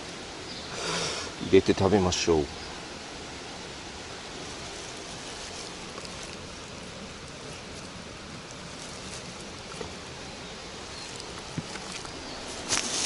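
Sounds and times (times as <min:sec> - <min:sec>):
steady water noise: 0:00.0 - 0:13.0.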